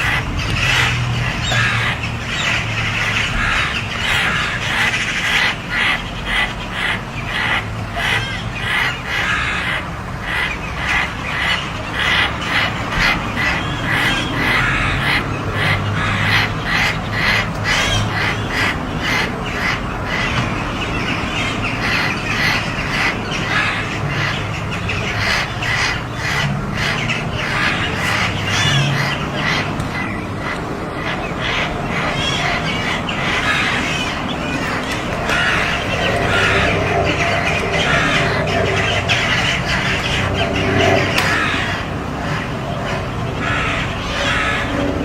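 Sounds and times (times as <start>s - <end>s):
crows cawing harshly: 0.0s - 45.0s.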